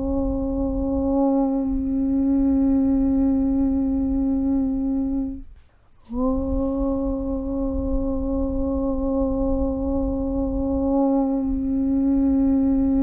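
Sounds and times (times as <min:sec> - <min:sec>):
chanted low hum: 0:00.0 - 0:13.0.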